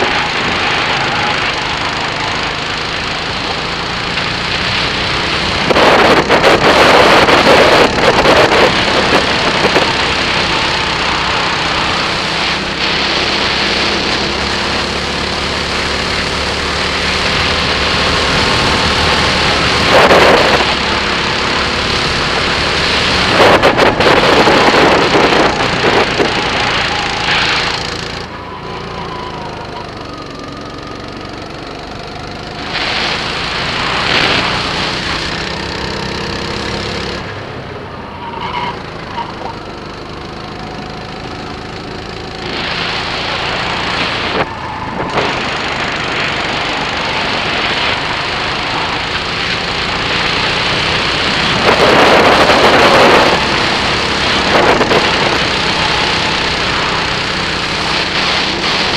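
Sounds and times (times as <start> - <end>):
kart engine accelerating: 0.0 - 58.9.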